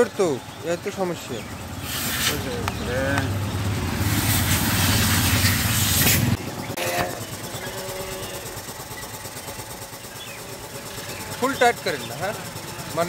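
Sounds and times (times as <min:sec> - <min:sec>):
engine rumble: 0:00.0 - 0:13.0.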